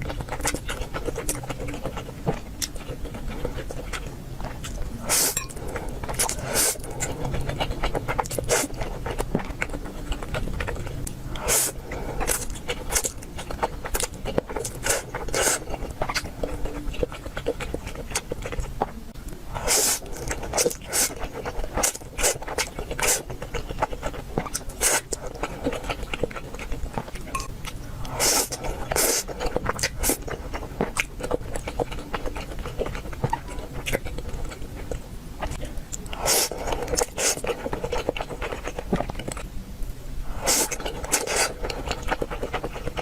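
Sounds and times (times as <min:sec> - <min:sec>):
person chewing and biting: 0:00.0 - 0:18.9, 0:19.6 - 0:39.5, 0:40.3 - 0:43.0.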